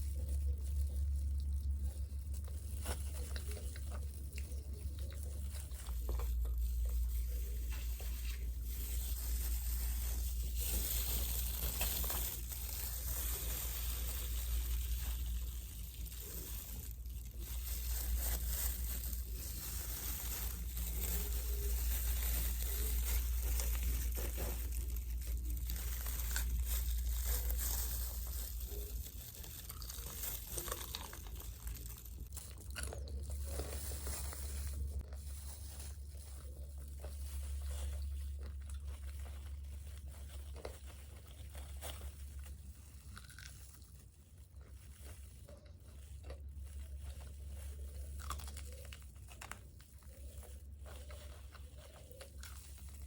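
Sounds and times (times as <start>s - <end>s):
person chewing crispy food: 0.0s - 53.0s
steady low hum: 0.0s - 53.0s.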